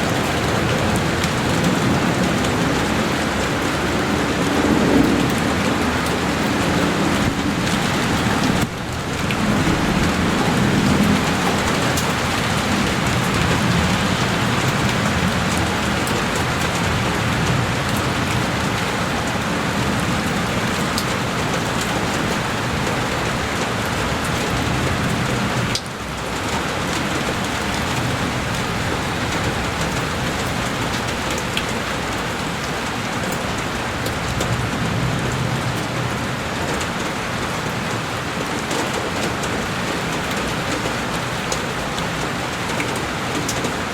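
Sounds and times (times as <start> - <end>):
heavy rain on a window: 0.0 - 43.9.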